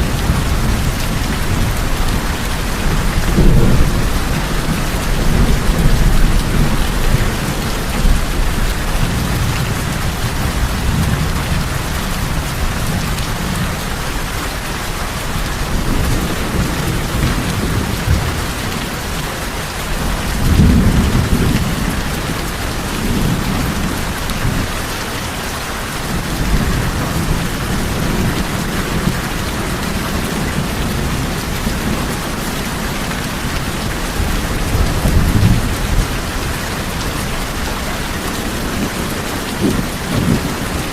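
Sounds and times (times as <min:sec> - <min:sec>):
thunder rumbling: 0:00.0 - 0:25.2, 0:25.8 - 0:40.9
rain on a tin roof: 0:00.0 - 0:40.9.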